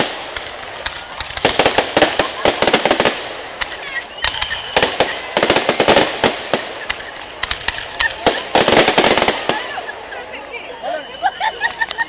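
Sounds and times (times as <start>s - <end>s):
fireworks popping and cracking: 0.0s - 10.1s.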